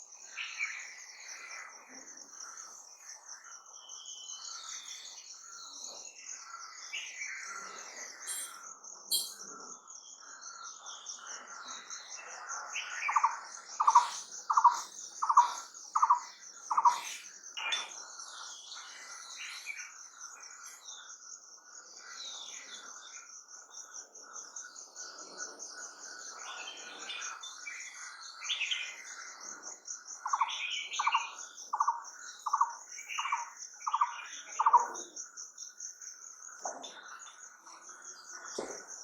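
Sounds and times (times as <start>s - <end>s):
high pulsing insect trill: 0.0s - 39.0s
wild birds calling and chirping: 0.0s - 39.0s.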